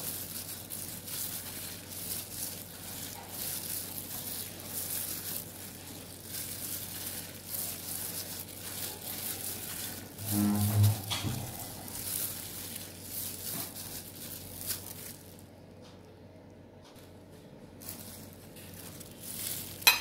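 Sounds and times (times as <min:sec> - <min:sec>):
low steady hum: 0:00.0 - 0:20.0
soft squishing of mashed food: 0:00.0 - 0:20.0.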